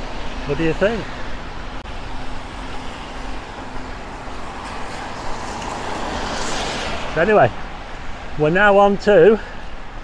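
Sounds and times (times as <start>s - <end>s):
road traffic on wet street: 0.0s - 10.0s.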